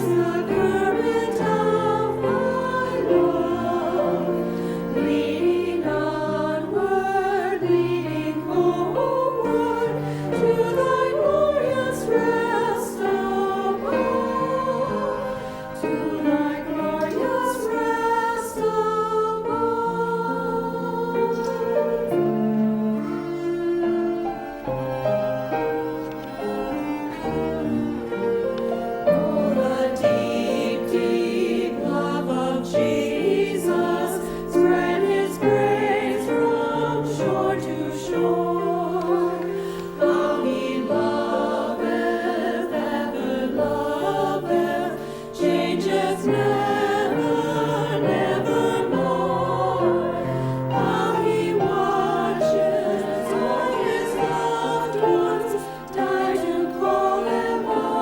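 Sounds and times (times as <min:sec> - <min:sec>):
women's choir singing a hymn: 0:00.0 - 0:58.0.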